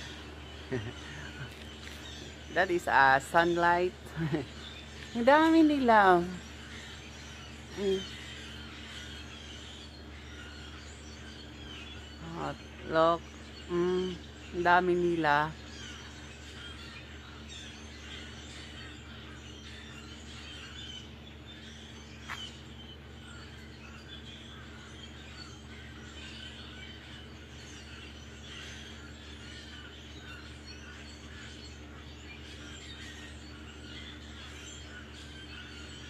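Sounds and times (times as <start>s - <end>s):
flock of birds chirping: 0.0s - 36.0s
low steady hum: 0.0s - 36.0s.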